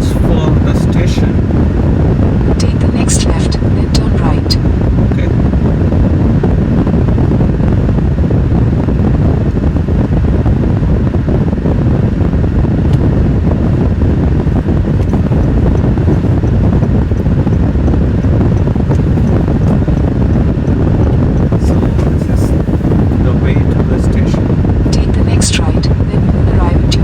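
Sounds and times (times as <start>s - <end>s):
car road noise: 0.0s - 3.8s, 4.4s - 27.0s
wind rushing: 0.0s - 27.0s.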